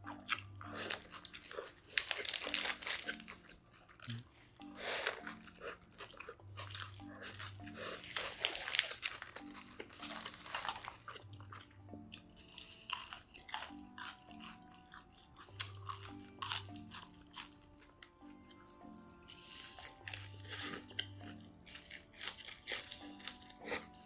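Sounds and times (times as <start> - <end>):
quiet background music: 0.0 - 24.0
crunchy bites and chewing: 0.1 - 4.3, 5.0 - 24.0.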